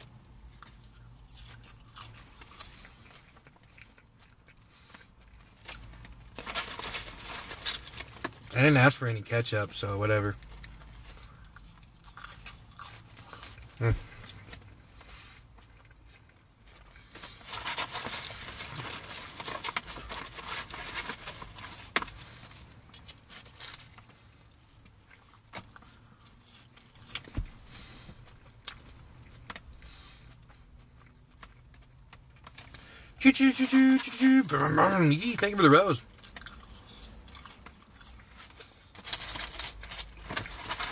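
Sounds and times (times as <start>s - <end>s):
person chewing: 0.0s - 6.5s, 10.3s - 33.1s, 34.5s - 40.9s
crackling and rustling of food: 0.0s - 40.9s.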